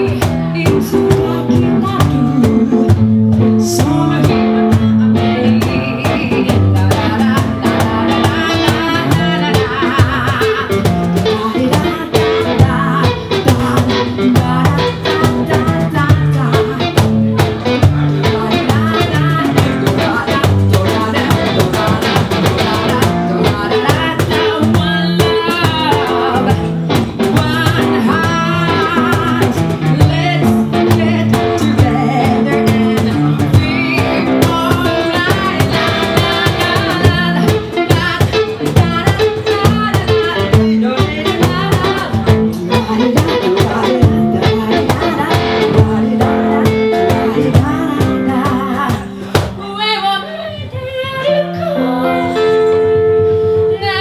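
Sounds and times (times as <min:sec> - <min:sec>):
cajon beating: 0:00.0 - 0:54.0
plucked guitar: 0:00.0 - 0:54.0
woman singing: 0:00.0 - 0:54.0.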